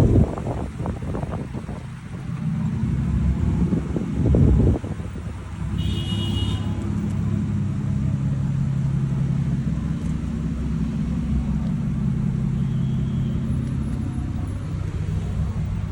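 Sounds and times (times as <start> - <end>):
car engine running steadily: 0.0 - 15.9.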